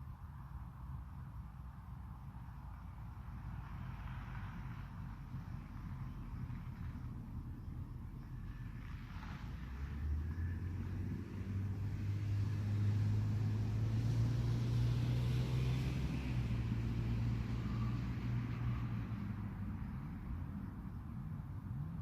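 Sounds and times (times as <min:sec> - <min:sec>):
distant engine droning: 0:00.0 - 0:22.0.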